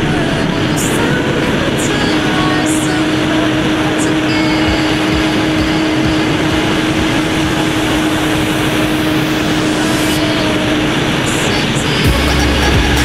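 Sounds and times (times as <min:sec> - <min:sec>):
heavy wind rush: 0:00.0 - 0:13.0
motorcycle engine at high revs: 0:00.0 - 0:13.0.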